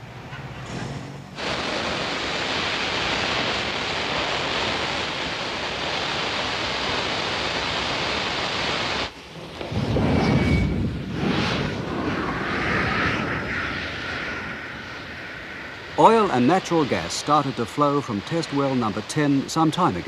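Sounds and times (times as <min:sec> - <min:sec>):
gas gushing with rushing hiss: 0:01.4 - 0:20.0.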